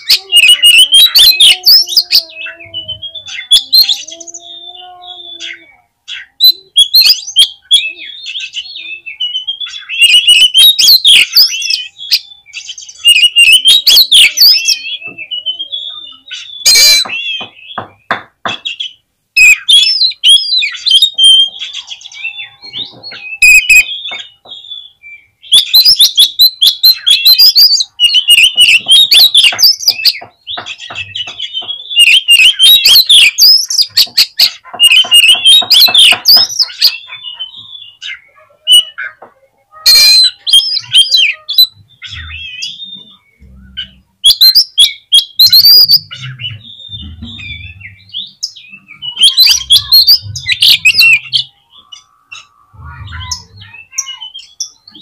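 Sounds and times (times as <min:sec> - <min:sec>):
bird singing rapid whistles: 0:00.0 - 0:39.0, 0:39.9 - 0:52.5.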